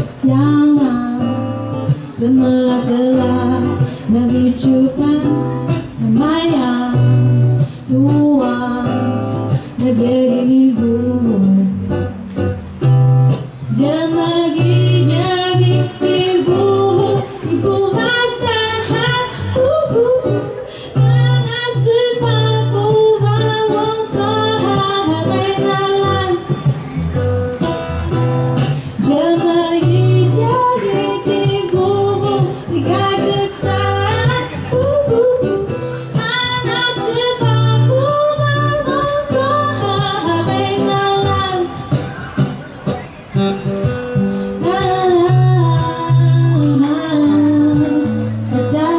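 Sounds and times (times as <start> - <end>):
woman singing: 0.0 - 12.2, 13.6 - 26.8, 28.6 - 42.1, 44.3 - 48.9
acoustic guitar: 0.0 - 48.9.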